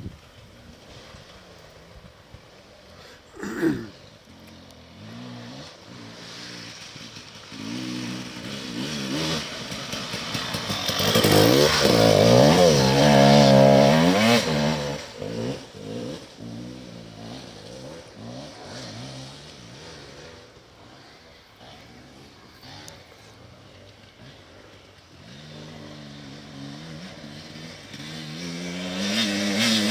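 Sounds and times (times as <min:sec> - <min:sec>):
motorcycle engine revving past: 0:00.0 - 0:29.9.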